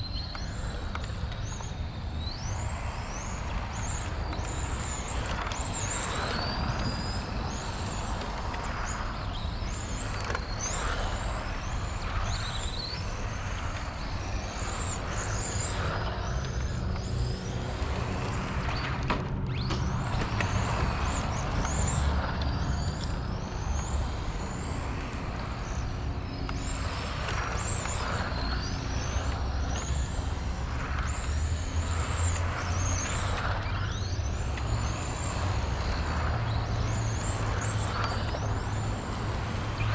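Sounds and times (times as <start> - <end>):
rc car motor whine: 0.0 - 39.9.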